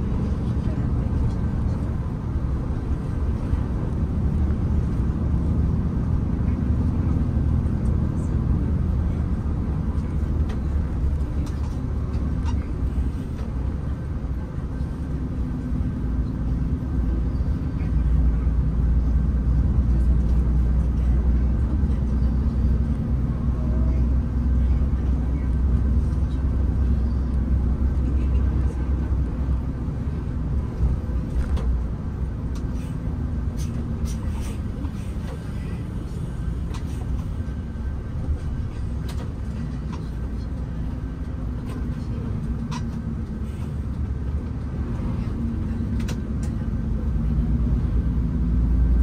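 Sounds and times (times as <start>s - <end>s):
engine and road rumble: 0.0s - 49.0s.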